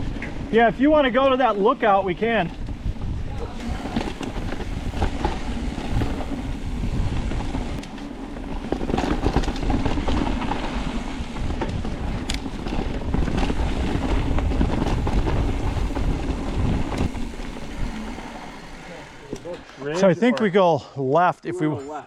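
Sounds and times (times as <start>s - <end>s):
bike clicks and rattles: 0.0s - 1.4s, 2.2s - 19.9s
wind buffeting microphone: 0.0s - 19.6s
bike tyre noise: 0.0s - 20.1s.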